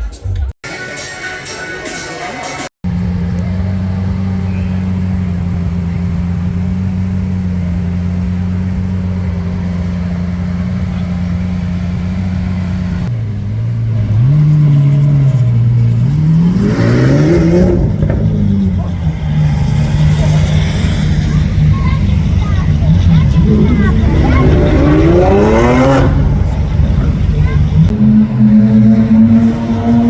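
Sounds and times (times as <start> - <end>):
car engine idling and revving: 2.8 - 30.0.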